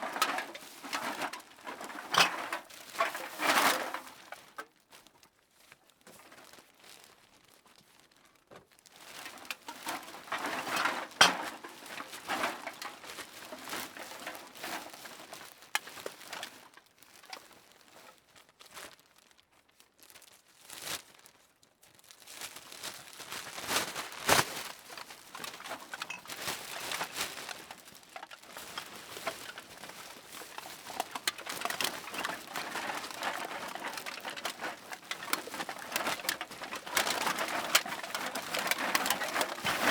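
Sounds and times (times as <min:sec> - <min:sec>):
plastic bag crinkling: 0:05.8 - 0:39.9.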